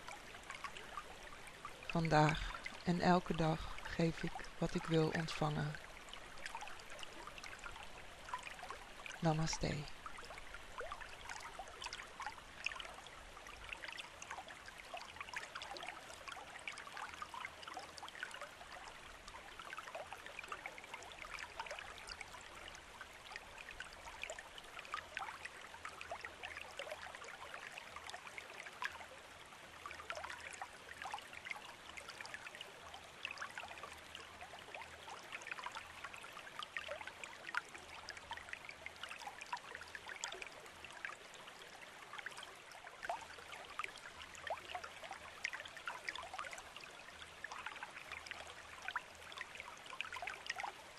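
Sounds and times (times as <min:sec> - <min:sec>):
water trickling and babbling: 0:00.0 - 0:50.9.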